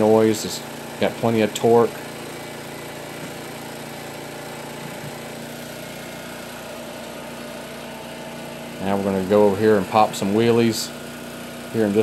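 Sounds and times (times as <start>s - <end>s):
mower engine running: 0.0s - 12.0s.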